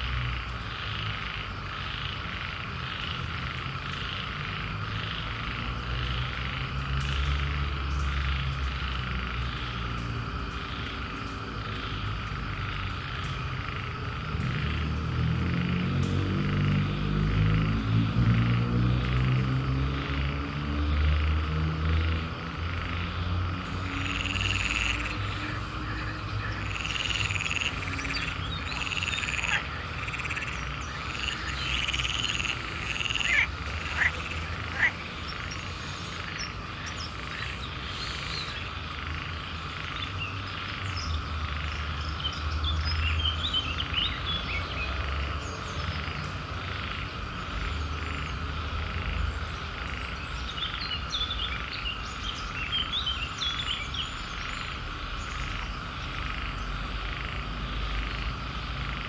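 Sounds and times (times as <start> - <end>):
frogs croaking and chirping: 0.0 - 59.0
steady frog trill: 0.0 - 59.0.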